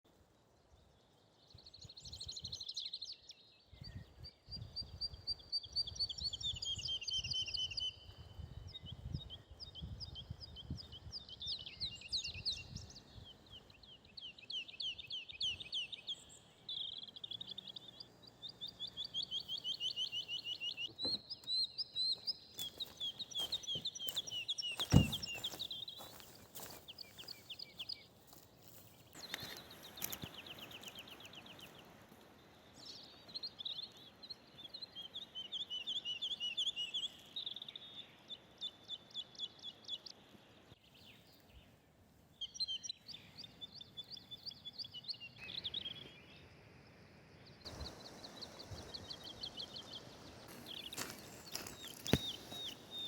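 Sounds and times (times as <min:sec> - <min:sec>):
songbirds singing: 0:00.1 - 0:53.0.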